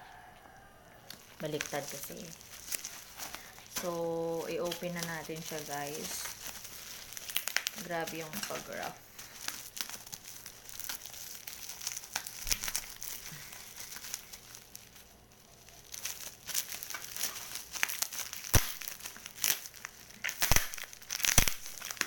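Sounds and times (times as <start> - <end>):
parcel wrapping crinkling and tearing: 1.0 - 22.0.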